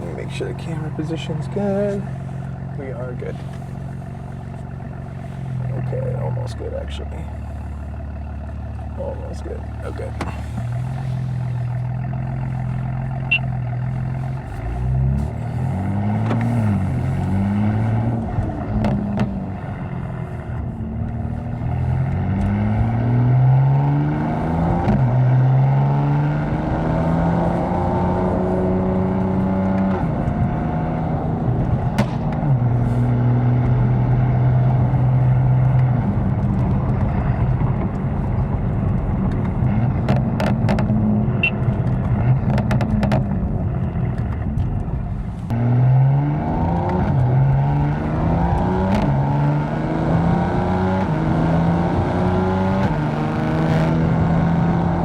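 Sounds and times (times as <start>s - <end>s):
car engine revving through gears: 8.0s - 55.0s.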